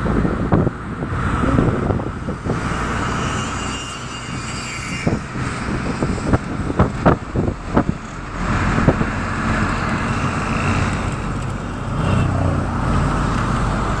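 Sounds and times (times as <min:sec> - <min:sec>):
tyre and wind rush: 0:00.0 - 0:14.0
vehicle engine hum: 0:00.0 - 0:14.0.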